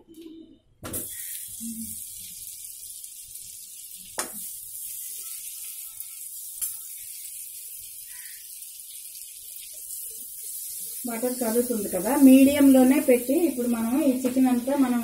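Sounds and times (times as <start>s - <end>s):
butter sizzling in a pan: 0.9s - 15.0s.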